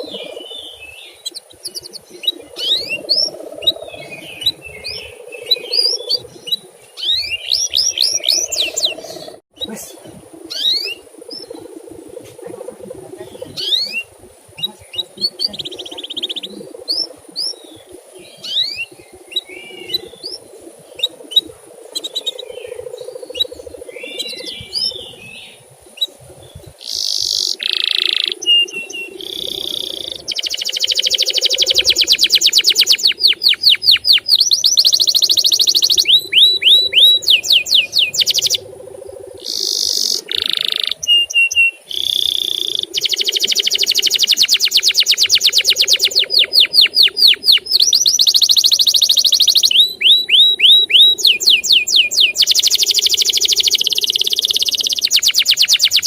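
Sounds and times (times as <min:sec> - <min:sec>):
canary singing: 0:00.0 - 0:38.7, 0:39.4 - 0:56.0.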